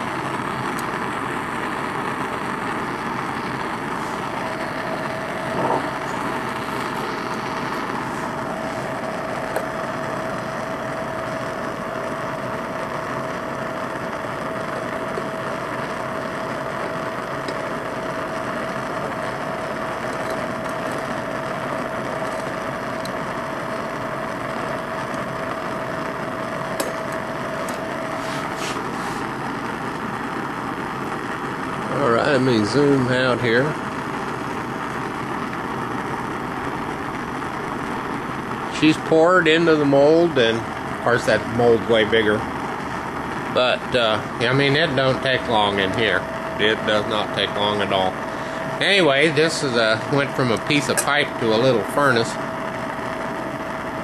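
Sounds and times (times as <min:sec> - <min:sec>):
torch flame roaring: 0:00.0 - 0:54.0.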